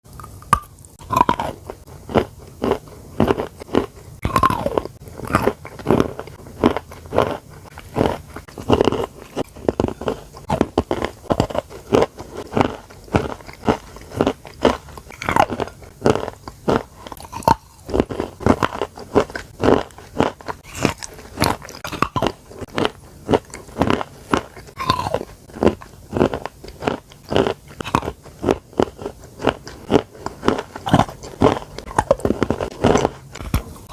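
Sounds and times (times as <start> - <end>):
chalk crunching while chewing: 0.9 - 33.9.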